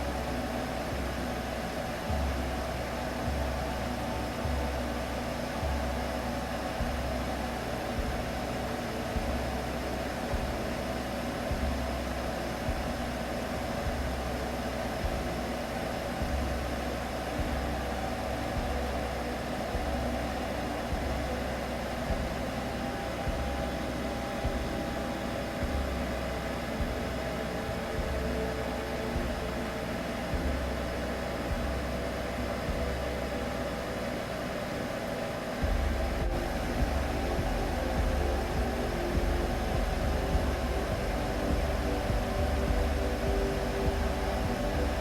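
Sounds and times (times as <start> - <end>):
deep low throb: 0.0 - 34.4, 35.5 - 45.0
humming drone: 0.0 - 45.0.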